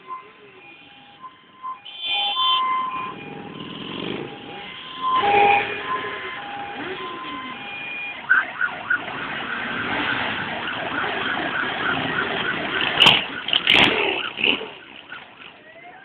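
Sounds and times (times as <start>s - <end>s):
motorcycle engines passing: 0.1s - 16.0s.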